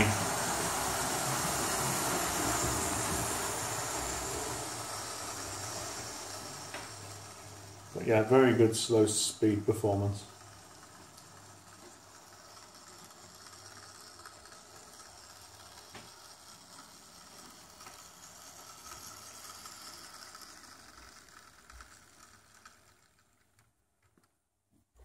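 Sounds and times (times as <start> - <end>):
wheels clicking on track: 0.0 - 24.3
model train motor whirring: 0.0 - 24.4.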